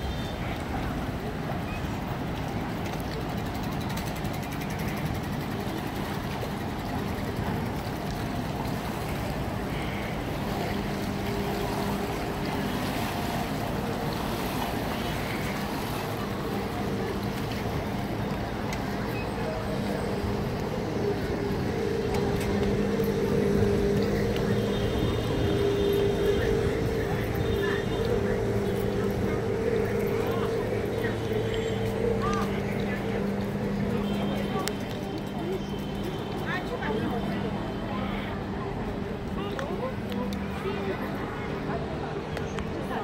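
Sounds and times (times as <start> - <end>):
boat engine humming: 0.0 - 43.0.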